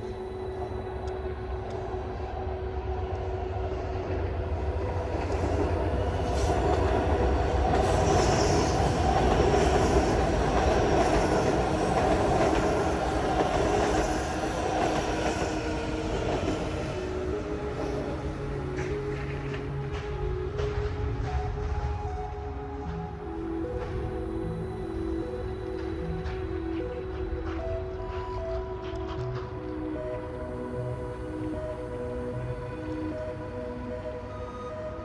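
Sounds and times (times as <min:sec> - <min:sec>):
train passing on rails: 0:00.0 - 0:35.0.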